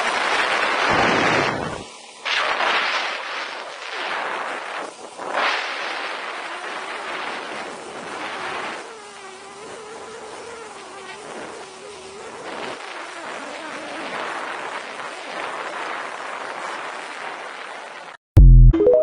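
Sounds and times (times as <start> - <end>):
small outboard motor buzzing: 0.0 - 18.1
rush of wind and water: 0.0 - 18.2.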